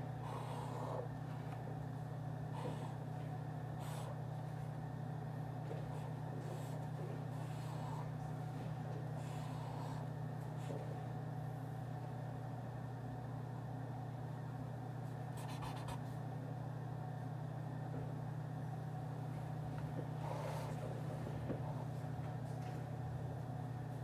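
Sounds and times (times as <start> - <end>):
low hum of room machinery: 0.0 - 24.0.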